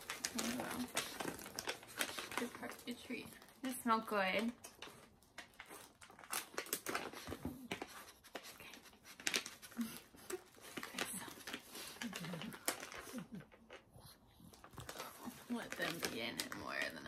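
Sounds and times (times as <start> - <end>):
plastic packet crinkling: 0.0 - 8.0, 9.0 - 13.8, 14.6 - 17.0.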